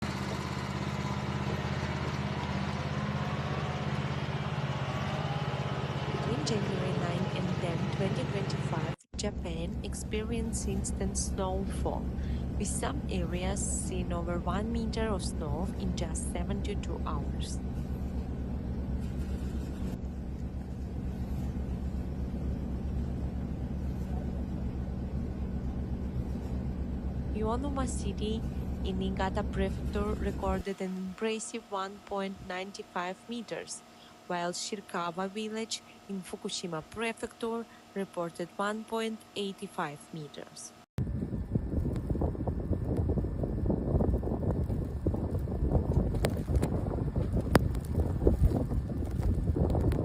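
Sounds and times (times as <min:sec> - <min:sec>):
vehicle engine running: 0:00.0 - 0:50.0.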